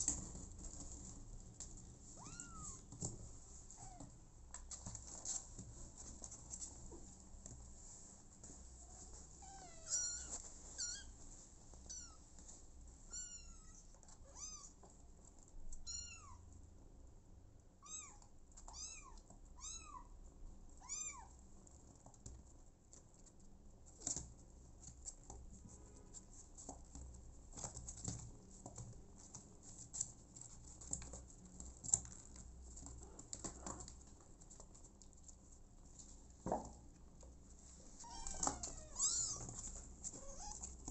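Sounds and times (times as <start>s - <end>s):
faint clicks and rustles: 0.0s - 16.7s, 20.5s - 40.9s.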